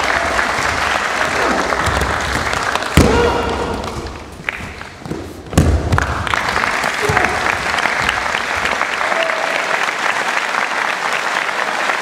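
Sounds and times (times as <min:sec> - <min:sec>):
audience applauding: 0:00.0 - 0:05.0, 0:05.9 - 0:12.0.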